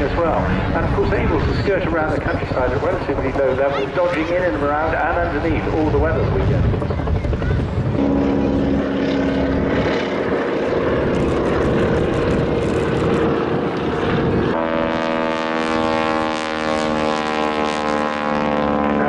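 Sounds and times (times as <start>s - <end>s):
biplane engines droning: 0.0s - 19.0s.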